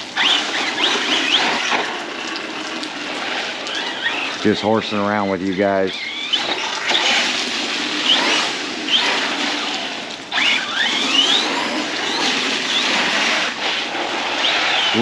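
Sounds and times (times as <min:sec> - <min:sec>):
rc truck motor whining: 0:00.0 - 0:15.0
tyres splashing through puddles: 0:00.0 - 0:15.0.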